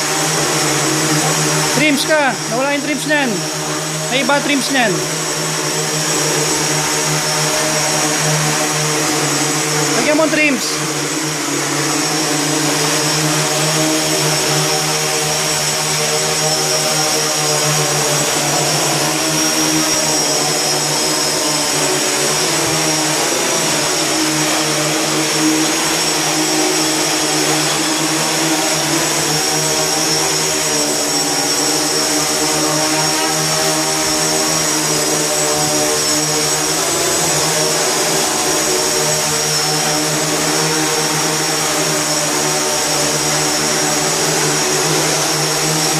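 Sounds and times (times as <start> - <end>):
drone motors buzzing: 0.0 - 45.9
high motor whine: 0.0 - 45.9.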